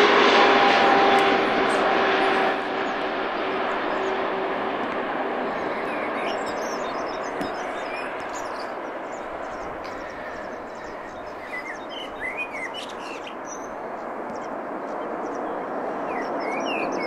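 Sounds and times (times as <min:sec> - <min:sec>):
distant jet engines rushing: 0:00.0 - 0:17.0
small birds chirping: 0:01.6 - 0:17.0.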